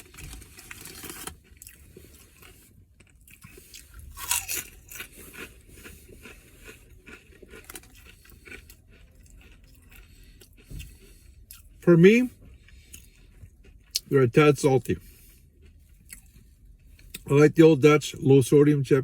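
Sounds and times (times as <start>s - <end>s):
person chewing crunchy chips: 0.0s - 17.4s.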